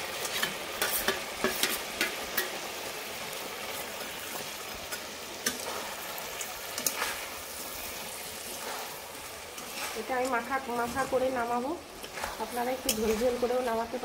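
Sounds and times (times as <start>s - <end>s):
gravy sizzling in a pan: 0.0s - 14.0s
utensil scraping a pan: 0.1s - 2.6s, 4.9s - 14.0s.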